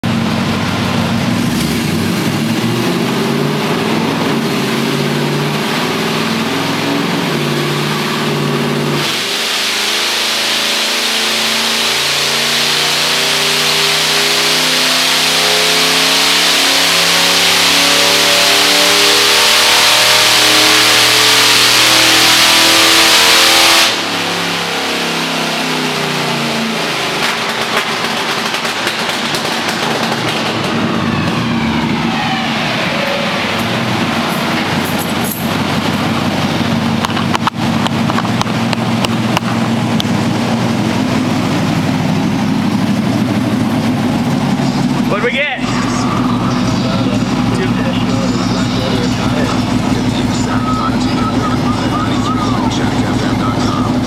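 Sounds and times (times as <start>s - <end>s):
loud rushing noise: 0.0s - 25.1s, 25.9s - 54.0s
car engine revving on dyno: 0.0s - 54.0s.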